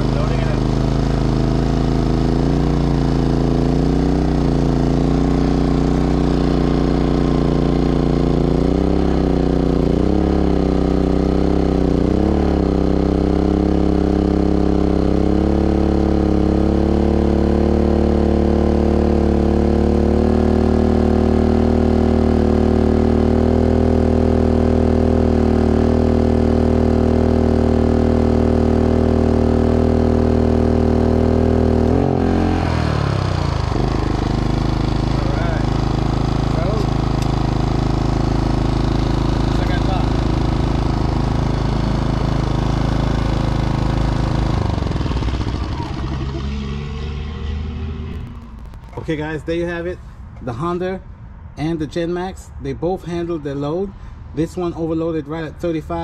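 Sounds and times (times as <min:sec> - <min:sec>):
generator engine running: 0:00.0 - 0:50.8.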